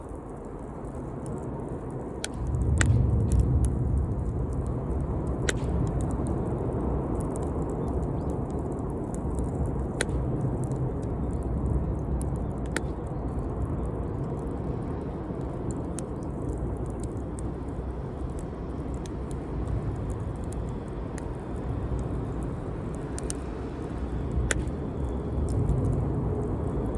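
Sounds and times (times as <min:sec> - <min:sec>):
campfire rumbling: 0:00.0 - 0:26.9
wood crackling and popping: 0:00.0 - 0:26.9.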